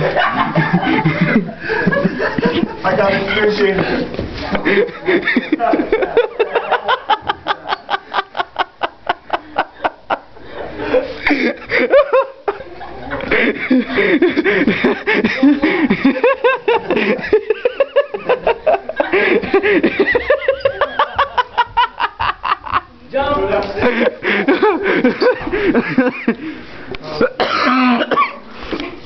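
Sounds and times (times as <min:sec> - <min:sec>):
people laughing hard: 0:00.0 - 0:23.0, 0:23.8 - 0:26.6.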